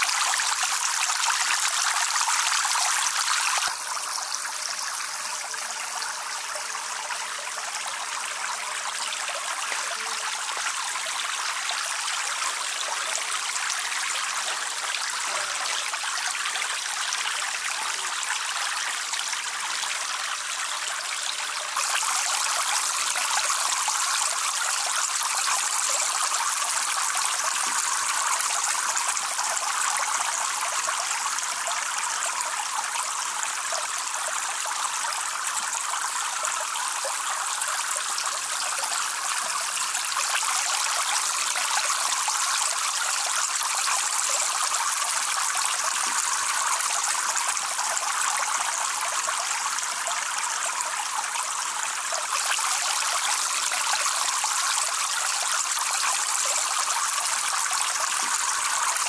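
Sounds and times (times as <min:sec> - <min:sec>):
water trickling into a pool: 0:00.0 - 0:59.0.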